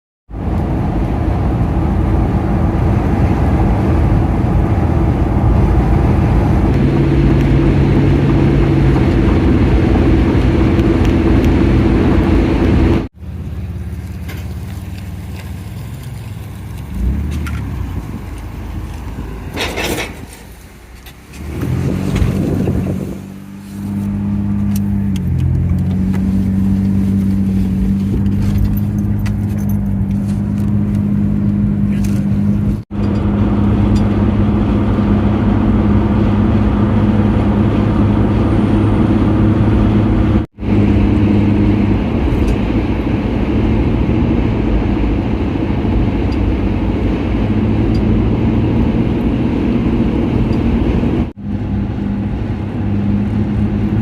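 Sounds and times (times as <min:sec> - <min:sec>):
vehicle engine running: 0:00.3 - 0:54.0.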